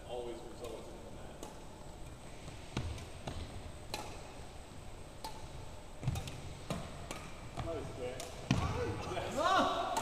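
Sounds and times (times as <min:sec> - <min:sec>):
rackets hitting shuttlecock: 0:00.6 - 0:10.0.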